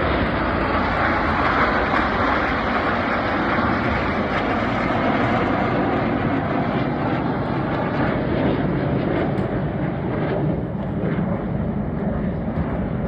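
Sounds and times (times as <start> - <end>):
jet engines rushing past: 0.0 - 13.0.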